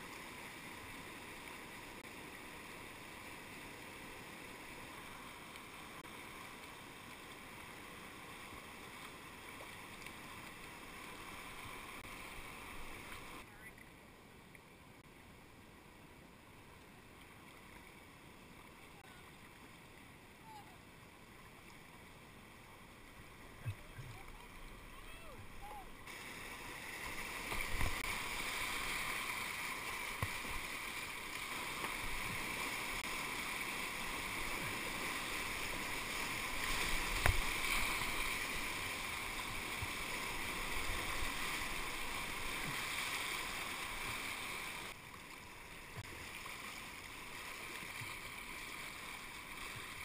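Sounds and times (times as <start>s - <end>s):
rushing river rapids: 0.0s - 13.6s, 15.2s - 50.0s.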